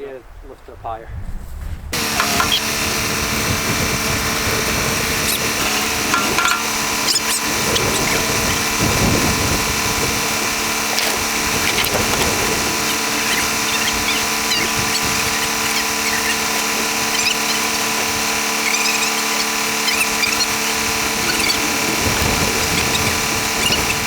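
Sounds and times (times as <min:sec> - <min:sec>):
tractor engine running: 0:02.0 - 0:24.0.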